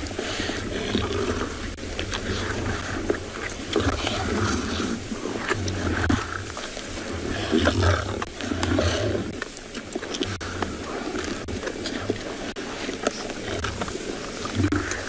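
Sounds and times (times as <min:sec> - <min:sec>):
crackling and tearing of feeding: 0:00.0 - 0:15.0
lions growling: 0:00.0 - 0:15.0.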